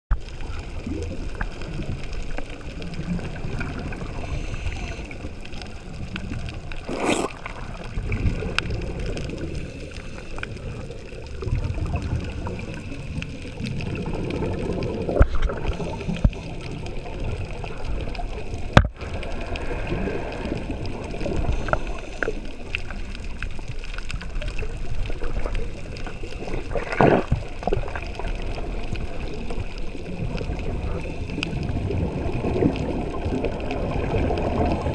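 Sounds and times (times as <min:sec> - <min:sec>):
muffled underwater rumble: 0:00.1 - 0:34.9.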